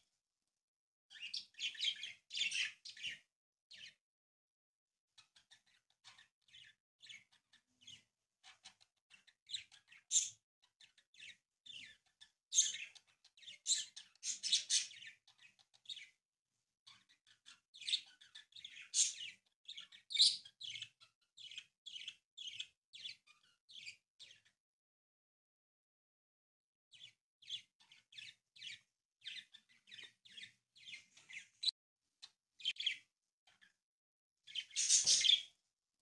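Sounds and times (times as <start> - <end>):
bird chirping: 1.1 - 4.0, 5.2 - 16.2, 16.8 - 24.6, 26.9 - 33.8, 34.5 - 35.6.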